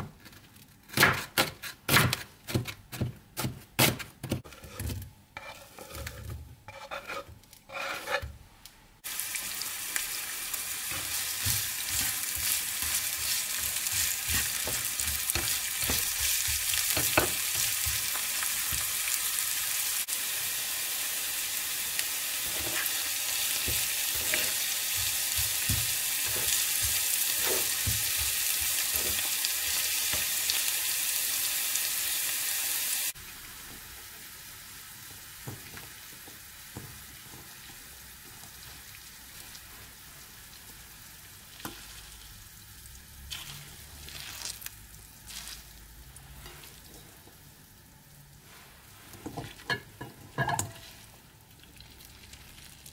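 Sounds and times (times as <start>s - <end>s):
onions sizzling in hot oil: 9.0s - 52.9s.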